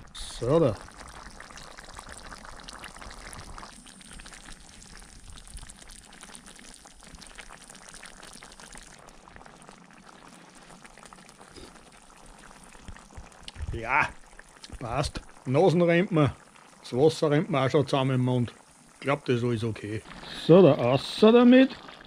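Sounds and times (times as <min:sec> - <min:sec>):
sauce bubbling in wok: 0:00.0 - 0:22.0.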